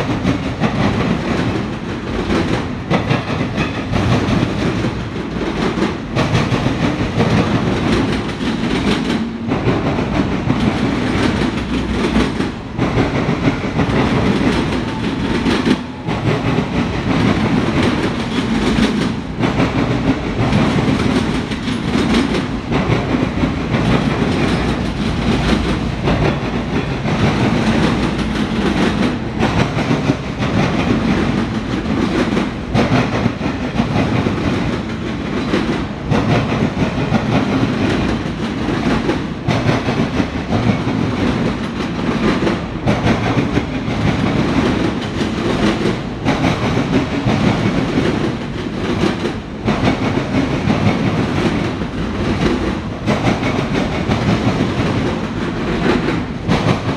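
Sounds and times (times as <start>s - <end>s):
freight train rolling past: 0.0s - 56.9s.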